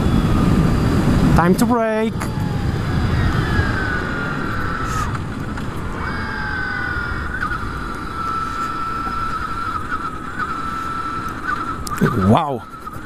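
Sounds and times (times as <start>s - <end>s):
electric motor whining: 0.0s - 13.0s
wind rush and road noise: 0.0s - 13.0s.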